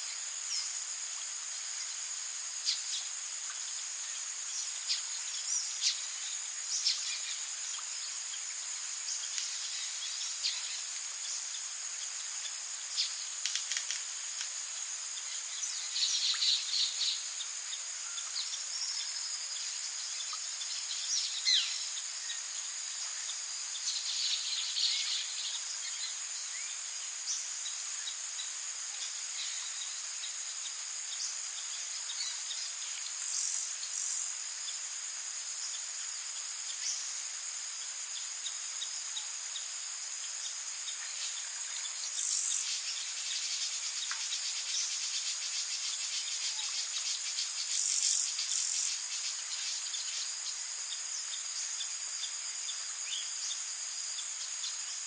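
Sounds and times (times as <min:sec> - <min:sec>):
high-pitched insect drone: 0:00.0 - 0:55.0
rain hiss: 0:00.0 - 0:55.0.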